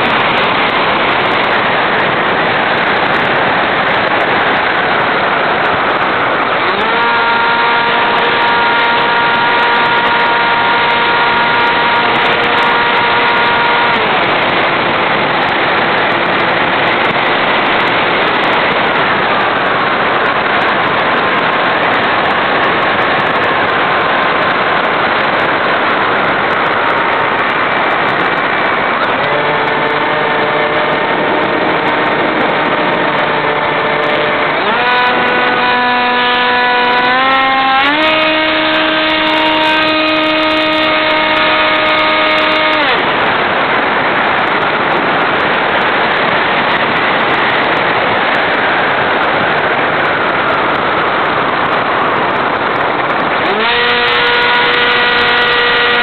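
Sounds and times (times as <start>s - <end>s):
electric motor and propeller whine: 0.0s - 56.0s
rush of airflow: 0.0s - 56.0s.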